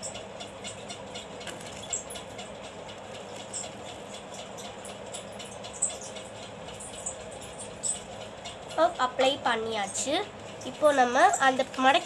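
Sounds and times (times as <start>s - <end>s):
background hum: 0.0s - 12.0s.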